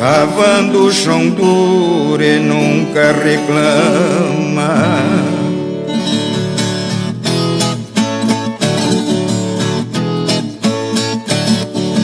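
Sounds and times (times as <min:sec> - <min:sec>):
steel-strung folk guitar playing: 0:00.0 - 0:12.0.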